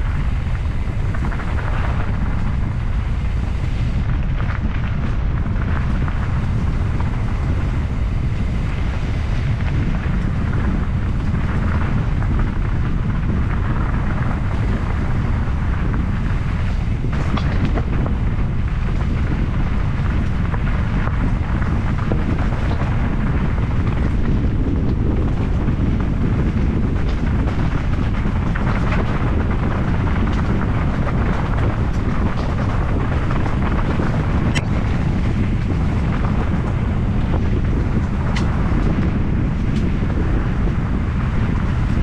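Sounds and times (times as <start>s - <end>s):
motorcycle engine rumble: 0.0s - 42.0s
wind buffeting microphone: 0.0s - 42.0s.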